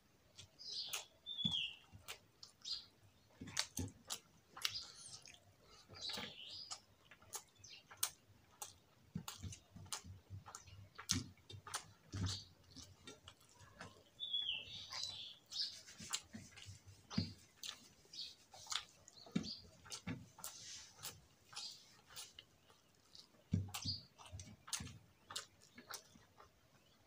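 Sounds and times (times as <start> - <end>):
person chewing with mouth open: 0.3 - 27.0.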